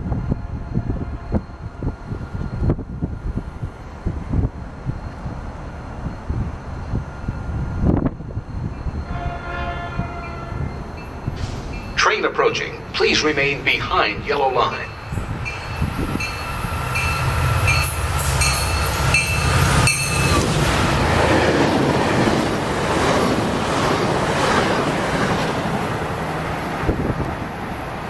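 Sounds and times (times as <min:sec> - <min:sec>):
low train engine rumble: 0:00.0 - 0:28.0
rushing train wheel noise: 0:00.0 - 0:28.0.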